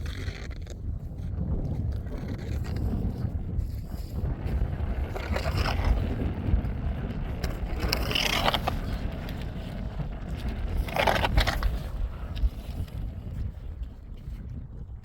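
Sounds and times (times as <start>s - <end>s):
wind rumbling against microphone: 0.0s - 15.0s.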